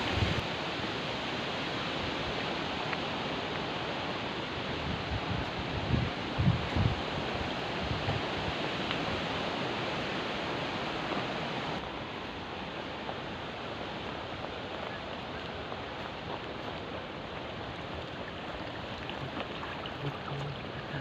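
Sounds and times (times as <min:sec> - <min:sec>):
water rushing along a channel: 0:00.0 - 0:21.0.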